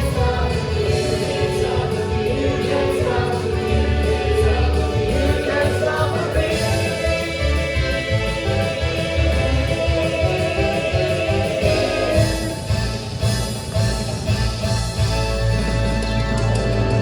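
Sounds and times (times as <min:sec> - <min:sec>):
choir singing with instruments: 0:00.0 - 0:13.8.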